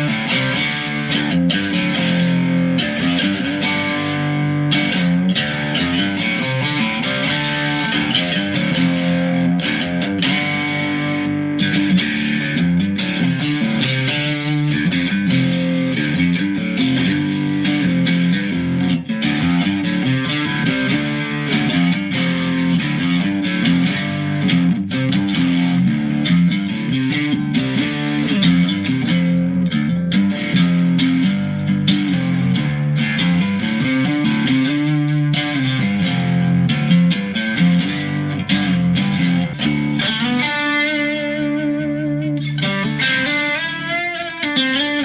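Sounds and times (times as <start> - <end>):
electric guitar riff: 0.0 - 45.0.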